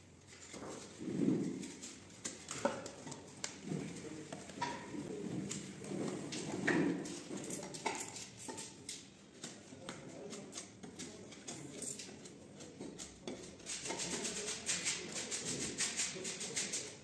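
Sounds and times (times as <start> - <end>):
knife scraping plasterboard: 0.3 - 17.0.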